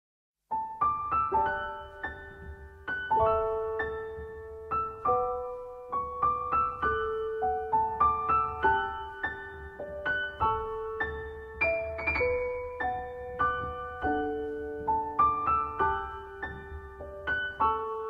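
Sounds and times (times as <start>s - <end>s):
gentle piano melody: 0.5s - 18.0s.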